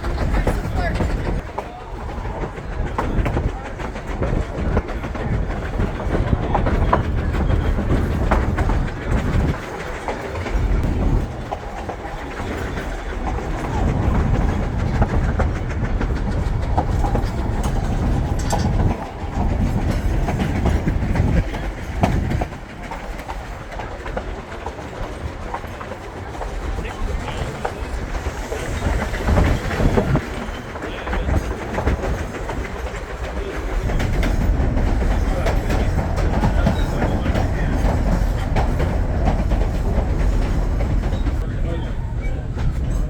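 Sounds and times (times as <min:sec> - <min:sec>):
train rumbling along track: 0:00.0 - 0:43.0.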